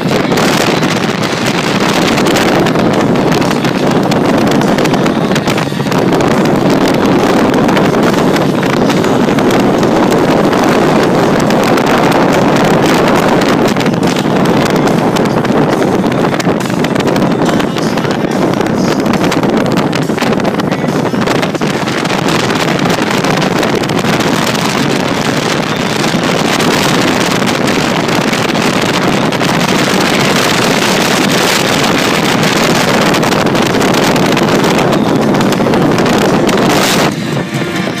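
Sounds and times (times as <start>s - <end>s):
motorcycle engine: 0.0s - 38.0s
road noise: 0.0s - 38.0s
wind rushing on microphone: 0.0s - 38.0s.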